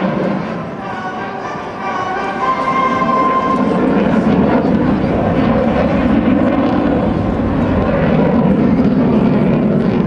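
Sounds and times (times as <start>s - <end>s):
jet flying past overhead: 0.0s - 10.0s.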